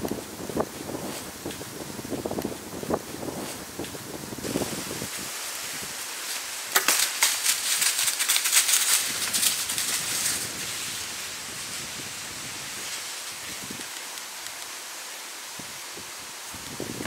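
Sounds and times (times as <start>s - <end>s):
crunching in dry leaf litter: 0.0s - 14.8s.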